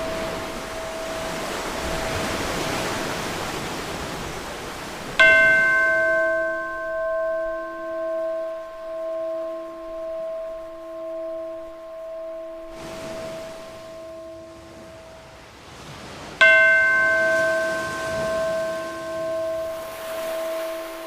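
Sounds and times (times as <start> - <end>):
bell ringing: 0.0 - 3.3, 5.2 - 15.2, 16.4 - 21.0
ocean waves washing: 0.0 - 21.0.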